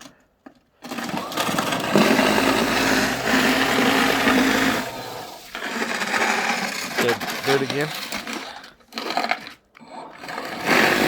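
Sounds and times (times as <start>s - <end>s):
electric snow shovel motor whirring: 0.8s - 11.0s.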